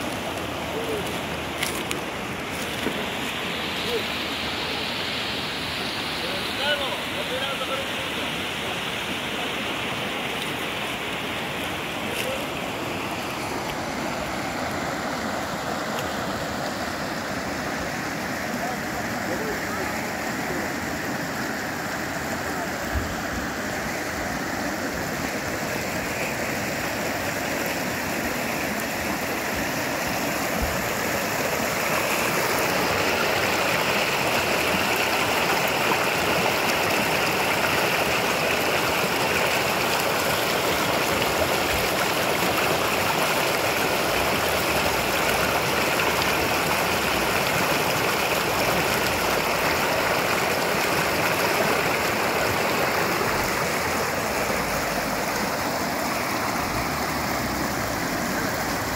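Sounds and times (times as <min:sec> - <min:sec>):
stream rushing over rocks: 0:00.0 - 0:58.9.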